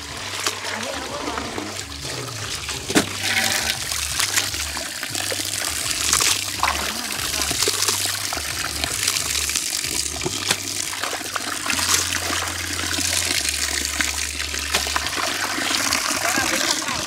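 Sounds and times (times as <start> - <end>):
water splashing in a basin: 0.0 - 17.0.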